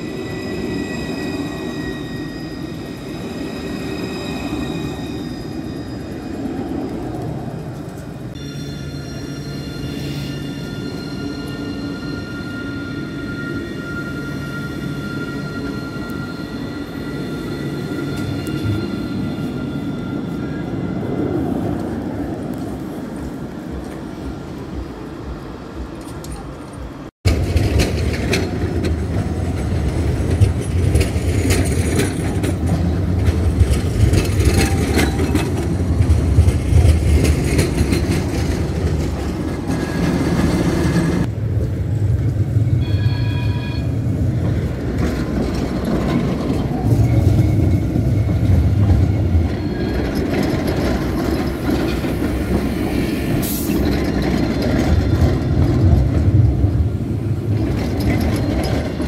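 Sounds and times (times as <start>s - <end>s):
wheel and rail clatter: 0.0s - 8.4s, 14.8s - 42.9s, 43.8s - 59.0s
tram rumbling on rails: 0.0s - 59.0s.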